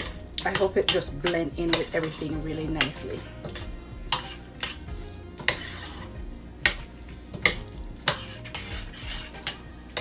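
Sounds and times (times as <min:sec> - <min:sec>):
wet squelching stirring: 0:00.0 - 0:10.0.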